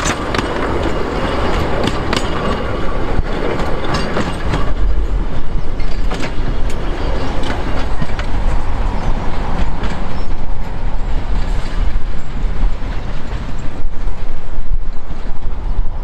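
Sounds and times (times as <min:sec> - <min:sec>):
train wheels clicking over rail joints: 0:00.0 - 0:15.7
low rumble of rolling carriages: 0:00.0 - 0:16.0.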